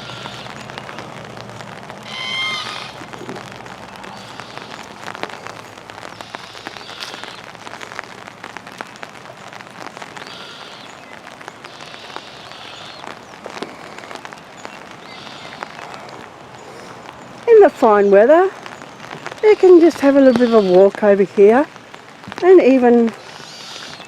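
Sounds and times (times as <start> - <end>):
birds chirping: 0.0 - 24.0
drizzle pattering on an umbrella: 0.0 - 24.0.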